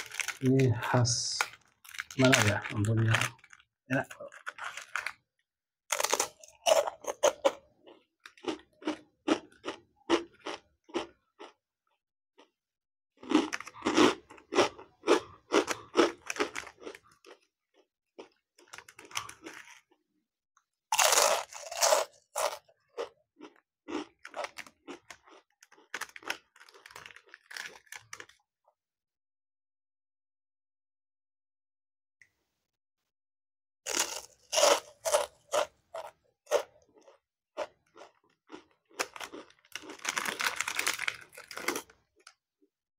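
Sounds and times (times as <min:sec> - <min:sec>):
crunchy snack chewing: 0:00.0 - 0:11.6, 0:13.2 - 0:20.0, 0:20.9 - 0:28.4, 0:33.9 - 0:42.4.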